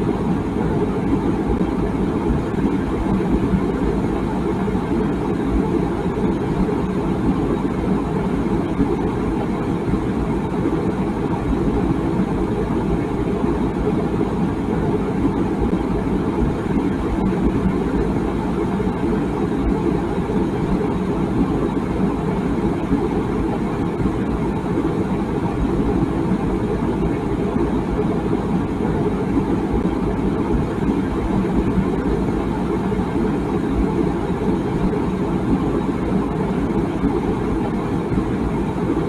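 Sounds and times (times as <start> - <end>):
water boiling in a kettle: 0.0 - 39.0.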